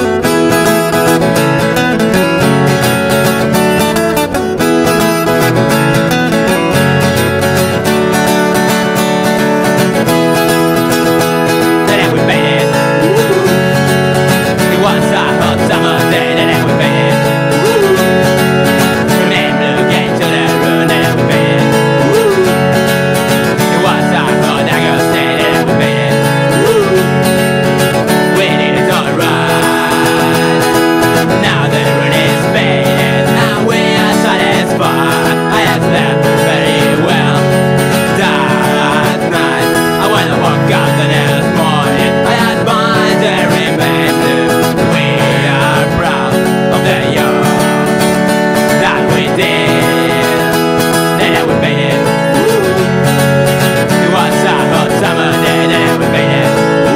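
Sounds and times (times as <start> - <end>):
acoustic guitar strummed: 0.0 - 56.9
bending guitar note: 0.0 - 56.9.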